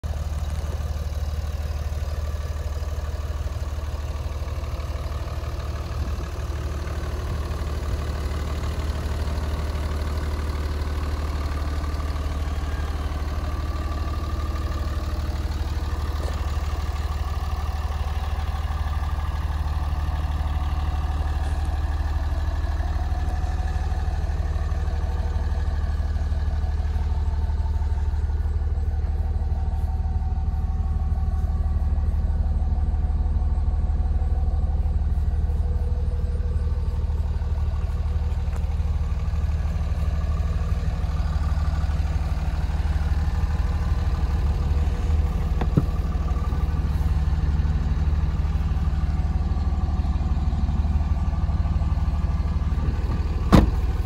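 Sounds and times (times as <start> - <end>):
pickup engine idling: 0.0 - 54.0.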